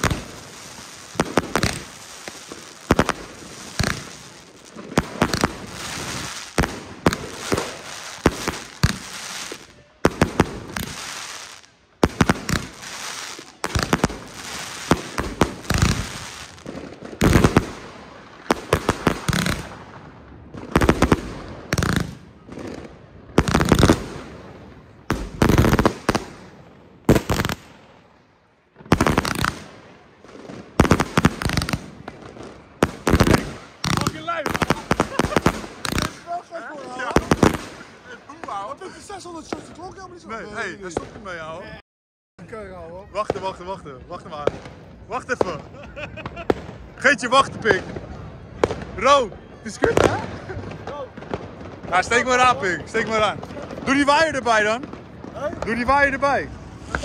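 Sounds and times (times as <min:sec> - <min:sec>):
fireworks barrage with aerial bursts: 0:00.0 - 0:41.8, 0:43.2 - 0:57.0.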